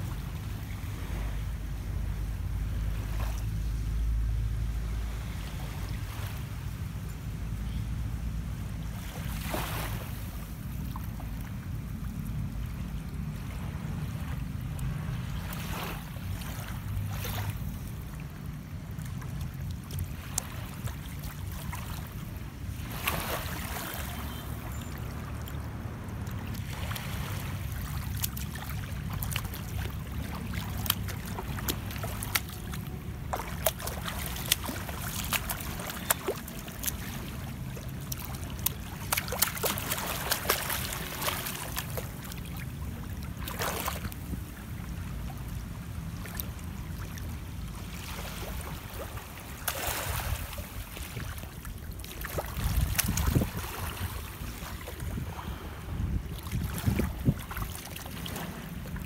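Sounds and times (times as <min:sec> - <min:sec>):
waves lapping on shoreline: 0:00.0 - 0:59.0
wind rumble on microphone: 0:00.0 - 0:59.0.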